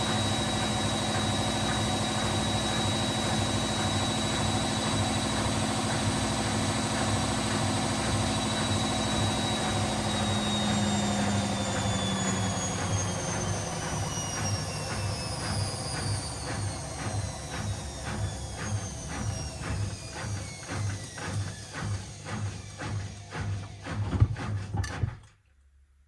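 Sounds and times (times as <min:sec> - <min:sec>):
washing machine spin cycle whine: 0:00.0 - 0:25.3.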